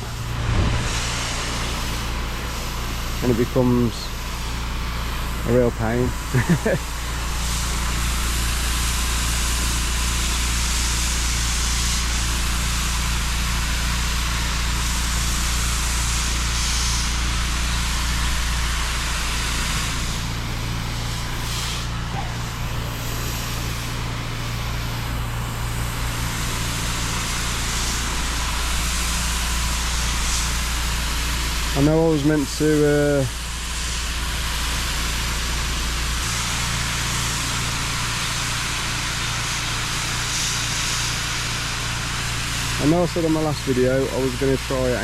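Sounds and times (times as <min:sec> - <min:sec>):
pressure washer engine hum: 0:00.0 - 0:45.0
water jet hissing: 0:00.0 - 0:45.0.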